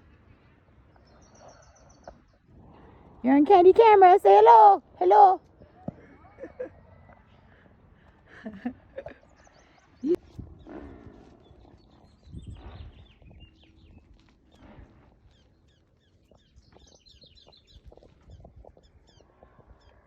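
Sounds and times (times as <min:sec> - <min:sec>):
small birds chirping: 0:00.1 - 0:05.9, 0:09.1 - 0:20.0.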